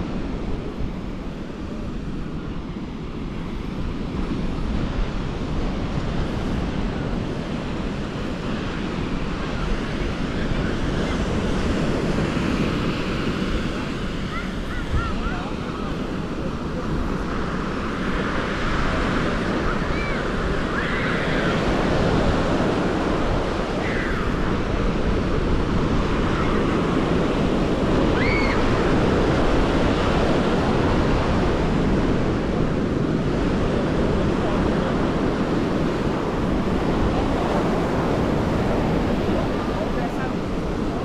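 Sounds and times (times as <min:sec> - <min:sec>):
ocean surf breaking on sand: 0:00.0 - 0:41.0
wind buffeting microphone: 0:00.0 - 0:41.0.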